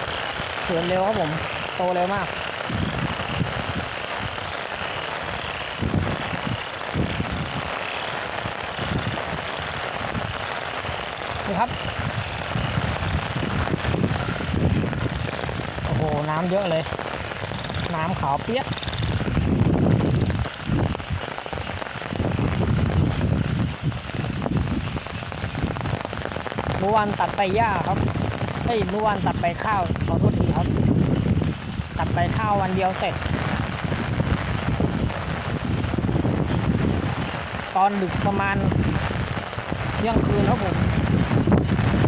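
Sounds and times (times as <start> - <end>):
rain hiss: 0.0 - 42.0
wind buffeting microphone: 0.0 - 42.0.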